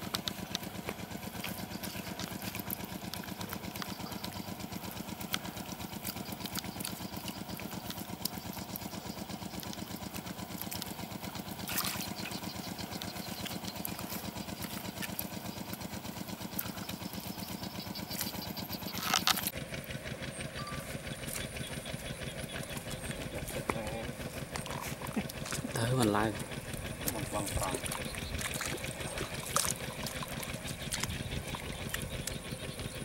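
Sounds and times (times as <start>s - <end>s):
small engine idling: 0.0s - 33.0s.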